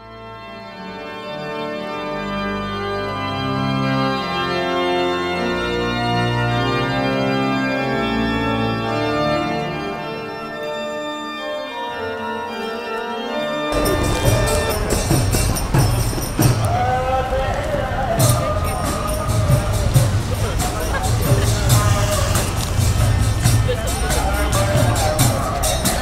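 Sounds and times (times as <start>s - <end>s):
organ playing held chords: 0.0s - 26.0s.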